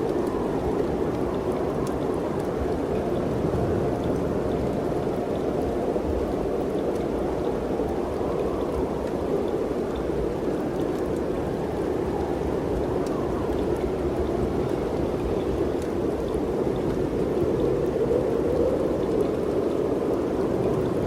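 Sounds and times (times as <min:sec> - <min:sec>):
wind blowing: 0:00.0 - 0:21.0.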